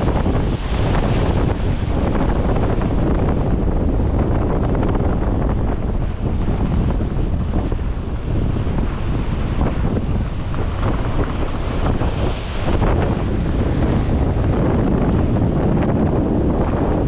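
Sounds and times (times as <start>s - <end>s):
ocean surf rushing: 0.0s - 17.0s
wind buffeting microphone: 0.0s - 17.0s.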